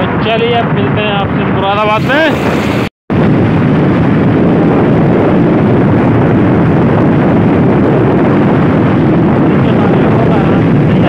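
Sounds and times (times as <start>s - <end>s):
road noise: 0.0s - 11.0s
wind rushing on microphone: 0.0s - 11.0s.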